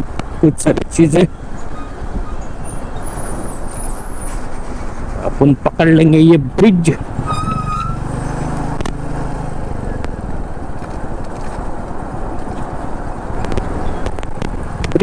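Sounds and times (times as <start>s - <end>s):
wind noise on microphone: 0.0s - 5.8s, 6.5s - 15.0s.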